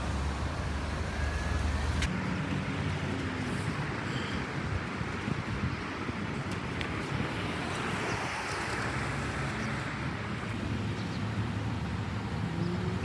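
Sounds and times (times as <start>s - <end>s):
cars passing on street: 0.0s - 13.0s.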